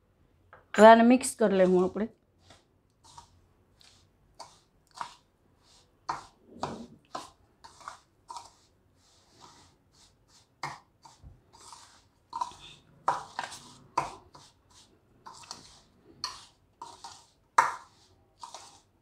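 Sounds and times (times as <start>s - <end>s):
spoon scraping a steel bowl: 3.0s - 19.0s.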